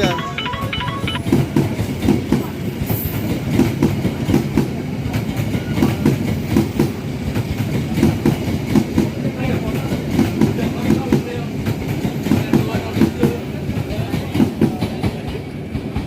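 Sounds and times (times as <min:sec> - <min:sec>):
train wheels clacking on rails: 0:01.5 - 0:16.0.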